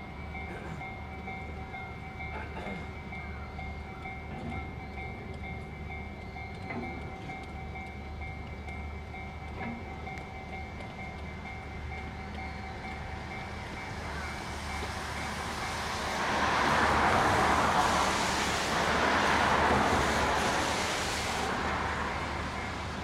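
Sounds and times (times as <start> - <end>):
crossing warning bell: 0.0 - 23.0
train wheels rumbling: 0.0 - 23.0.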